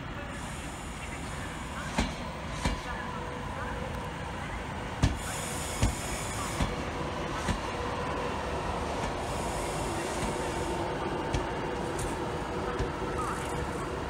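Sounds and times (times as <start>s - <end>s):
train rolling past with hiss and hum: 0.0s - 14.0s.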